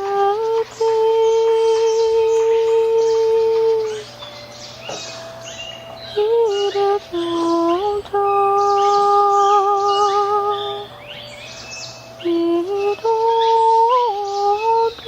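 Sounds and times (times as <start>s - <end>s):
woman humming: 0.0s - 4.2s, 6.0s - 11.1s, 12.2s - 15.0s
small birds chirping: 0.0s - 15.0s.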